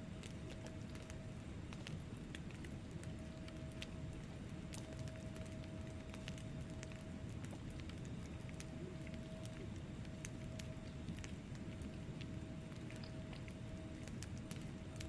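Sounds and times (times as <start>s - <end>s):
faint steady tone: 0.0s - 15.0s
wood fire crackling and popping: 0.0s - 15.0s.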